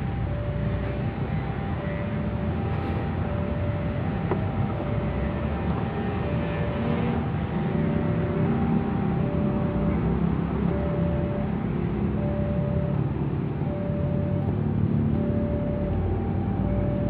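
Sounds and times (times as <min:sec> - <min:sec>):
two-tone electronic warning signal: 0:00.0 - 0:17.0.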